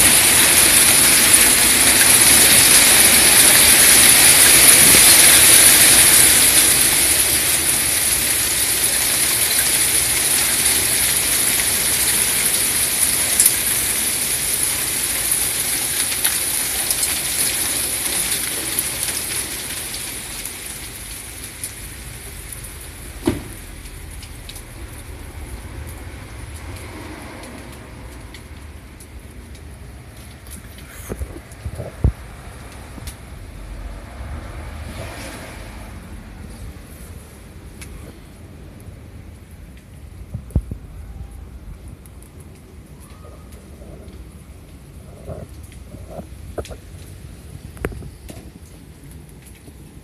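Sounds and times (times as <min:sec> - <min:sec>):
hail pelting foliage and ground: 0:00.0 - 0:50.0.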